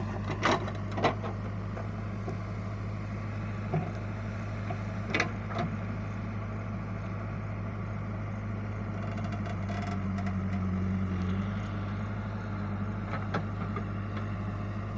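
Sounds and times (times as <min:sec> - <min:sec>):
backhoe diesel engine running: 0:00.0 - 0:14.9.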